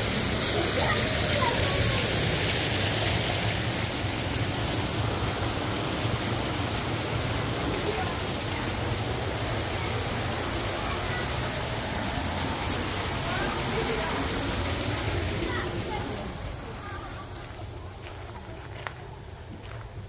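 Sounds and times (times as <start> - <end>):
faint voices: 0.0 - 20.0
steady rushing noise: 0.0 - 20.0.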